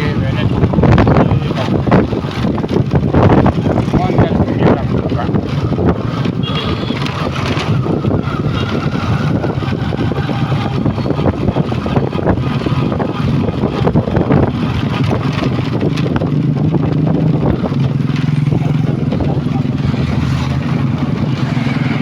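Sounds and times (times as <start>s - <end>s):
vehicle engine running: 0.0s - 22.0s
wind buffeting microphone: 0.0s - 22.0s.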